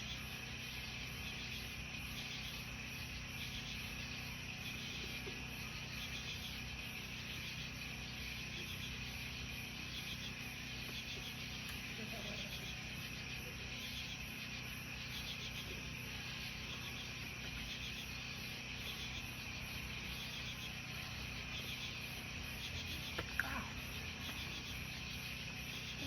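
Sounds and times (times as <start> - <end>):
crickets chirping: 0.0 - 26.0
high pulsing insect call: 0.0 - 26.0.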